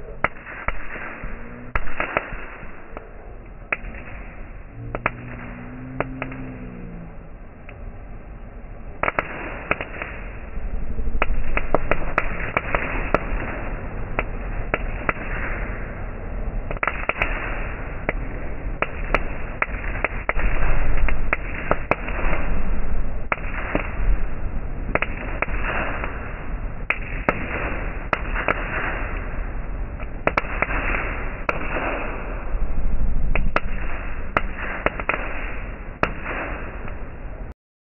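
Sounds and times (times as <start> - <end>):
firework fountain hissing and crackling: 0.0 - 37.5
low rumble: 0.0 - 37.6.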